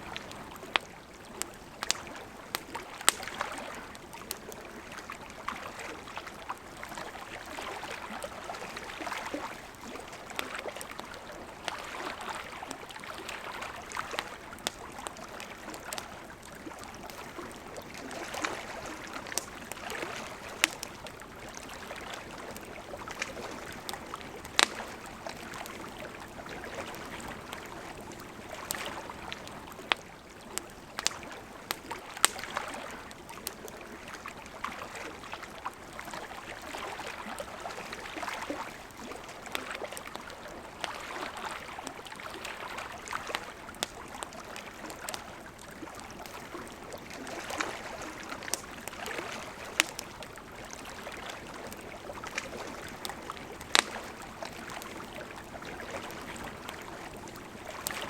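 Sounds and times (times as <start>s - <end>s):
campfire crackling and popping: 0.0s - 58.0s
lake water lapping: 0.0s - 58.0s.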